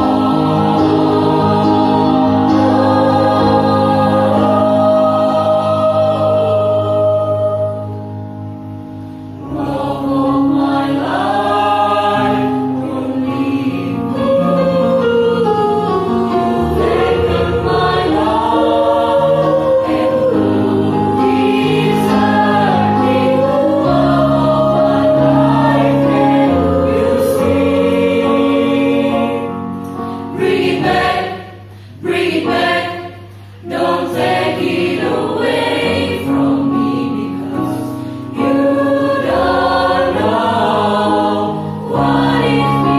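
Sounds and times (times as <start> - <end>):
choir singing in harmony: 0.0 - 42.9.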